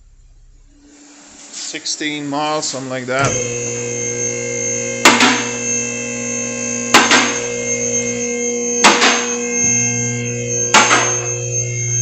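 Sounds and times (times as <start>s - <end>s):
multi-tone hum: 0.0s - 12.0s.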